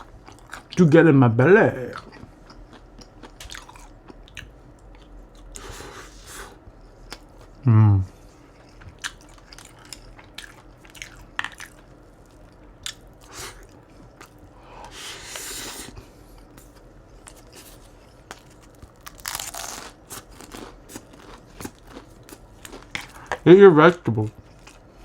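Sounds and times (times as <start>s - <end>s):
crunching and chewing food: 0.0s - 1.0s, 1.6s - 25.0s.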